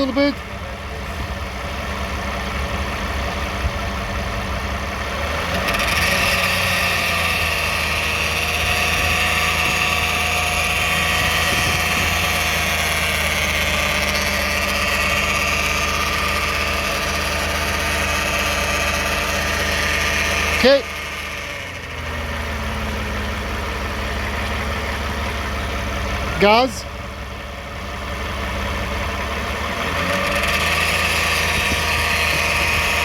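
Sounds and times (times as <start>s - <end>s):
car engine running: 0.0s - 33.0s
high-pitched engine noise: 0.0s - 33.0s.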